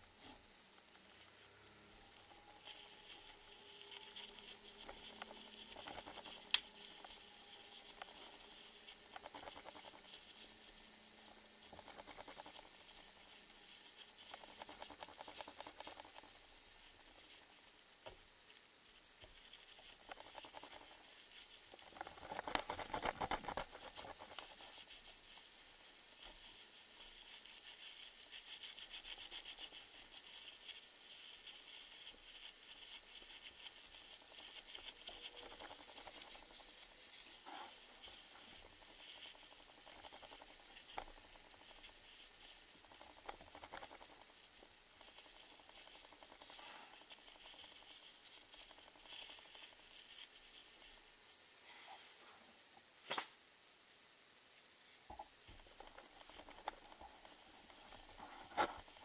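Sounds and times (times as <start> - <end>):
rustling and crackling handling noise: 0.0 - 53.4.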